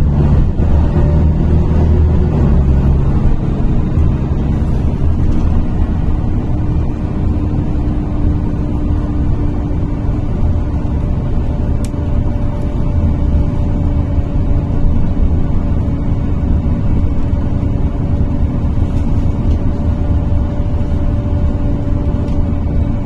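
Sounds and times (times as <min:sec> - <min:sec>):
bus engine and road rumble: 0:00.0 - 0:23.0
steady whine: 0:00.0 - 0:23.0.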